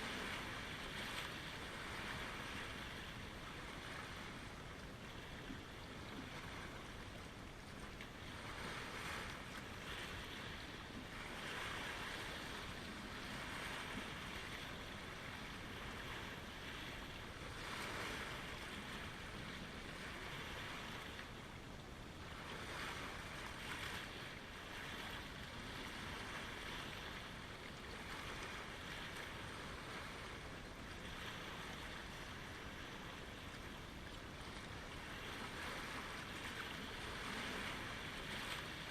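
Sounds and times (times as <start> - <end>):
waves lapping at shoreline: 0.0 - 38.9.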